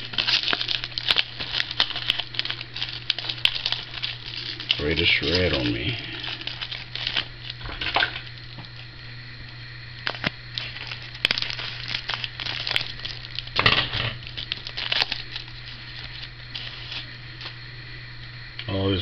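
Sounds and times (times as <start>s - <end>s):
foil wrapper crinkling and tearing: 0.0s - 17.7s
steady low hum: 0.0s - 19.0s.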